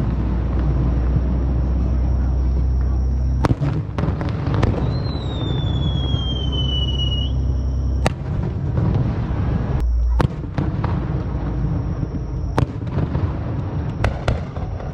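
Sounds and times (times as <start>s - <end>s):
descending firework whistle: 0.0s - 14.9s
fireworks booming: 0.0s - 14.9s
fireworks cracks: 0.0s - 14.9s.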